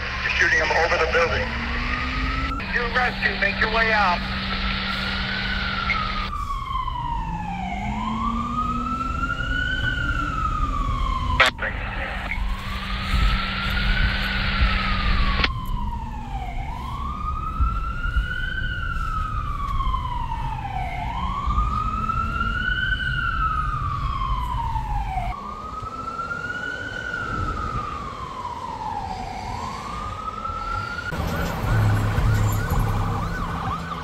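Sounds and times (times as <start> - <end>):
low traffic rumble: 0.0 - 34.0
wailing siren: 0.0 - 34.0.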